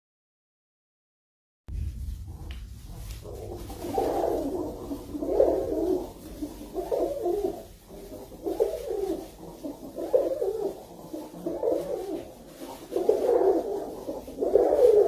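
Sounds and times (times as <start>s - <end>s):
pigeon cooing: 2.3s - 15.0s.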